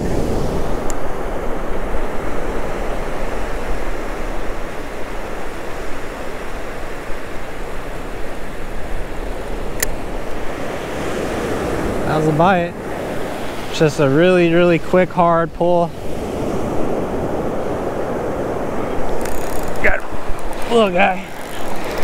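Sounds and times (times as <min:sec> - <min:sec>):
surf washing up beach: 0:00.0 - 0:22.0
wind rumbling on microphone: 0:00.0 - 0:22.0.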